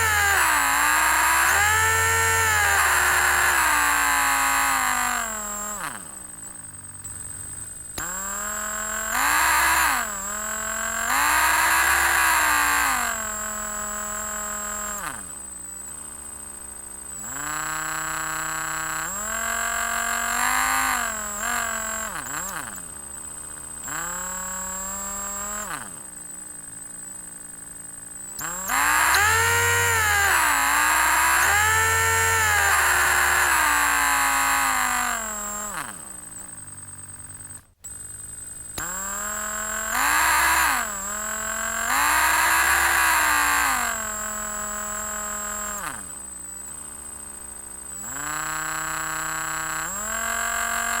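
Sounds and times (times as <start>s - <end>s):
electric drill motor whining: 0.0s - 51.0s.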